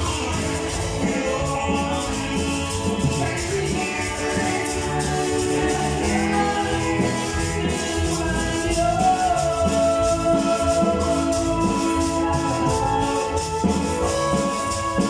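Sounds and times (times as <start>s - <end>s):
man singing: 0.0s - 15.0s
worship band playing: 0.0s - 15.0s.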